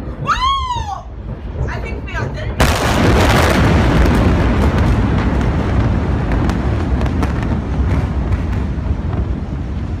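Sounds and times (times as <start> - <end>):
deep explosion rumble: 0.0 - 10.0.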